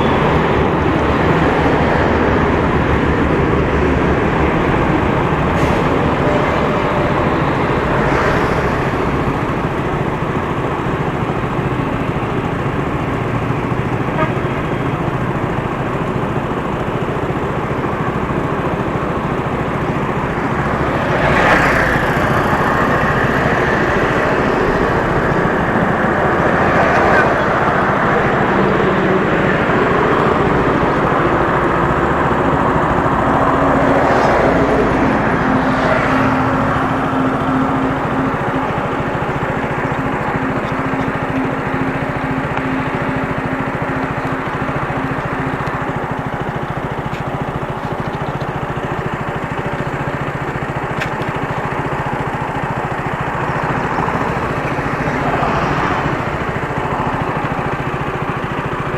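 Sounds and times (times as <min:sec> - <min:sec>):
road and traffic noise: 0:00.0 - 0:58.9.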